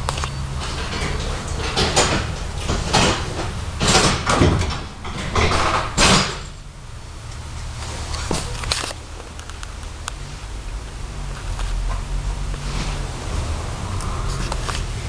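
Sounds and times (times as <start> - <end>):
tram clattering over track: 0.0 - 15.0
tram running hum: 0.0 - 15.0.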